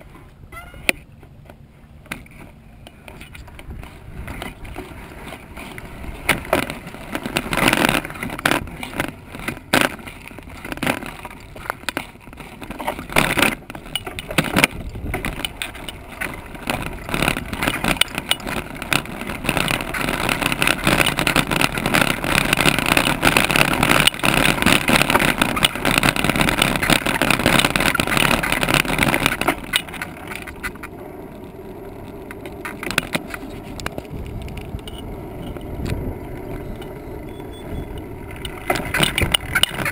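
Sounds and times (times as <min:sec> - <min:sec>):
bicycle rattling over rough ground: 0:00.0 - 0:39.9.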